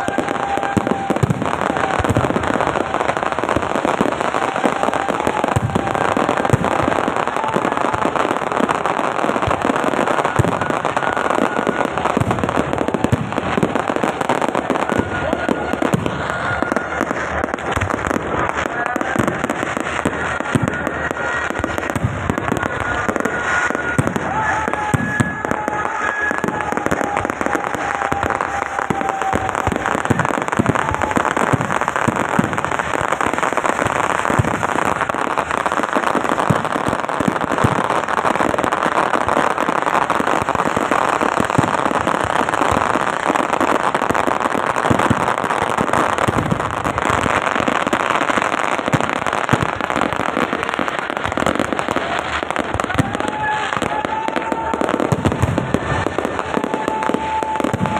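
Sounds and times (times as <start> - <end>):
firework crackling hiss: 0.0 - 57.9.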